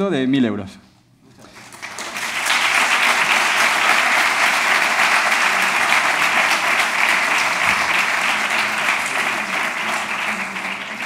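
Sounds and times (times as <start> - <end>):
audience applauding: 1.3 - 11.0.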